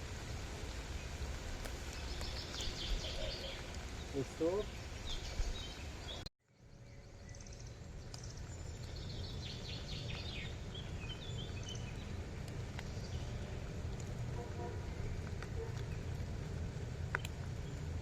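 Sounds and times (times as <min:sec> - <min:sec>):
small birds chirping: 0:00.2 - 0:18.0.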